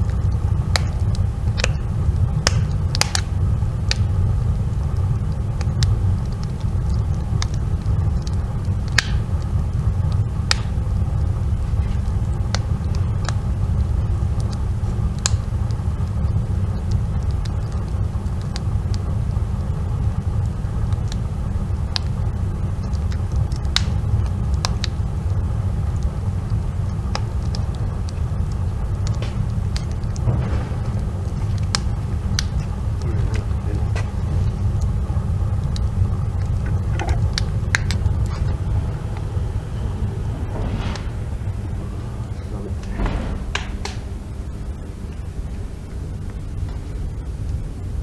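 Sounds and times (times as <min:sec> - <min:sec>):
fire crackling pops: 0:00.0 - 0:48.0
fire rumbling: 0:00.0 - 0:48.0.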